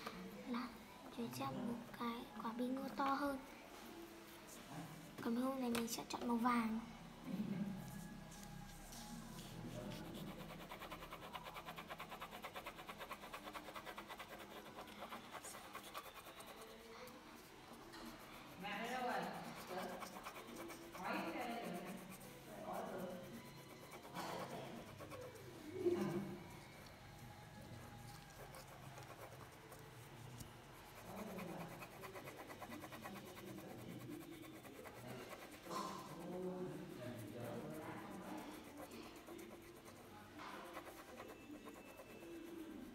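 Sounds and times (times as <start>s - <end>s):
crayon scratching on paper: 7.8s - 27.0s, 27.6s - 42.9s.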